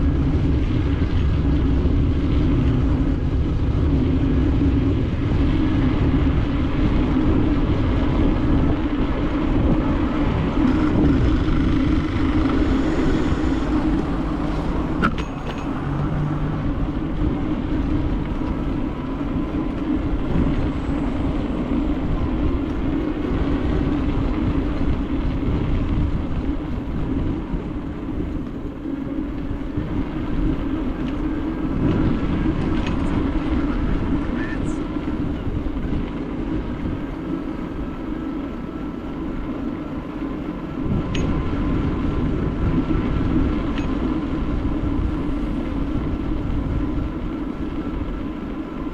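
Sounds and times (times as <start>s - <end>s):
bicycle rolling rumble: 0.0s - 48.9s
wind noise: 0.0s - 48.9s.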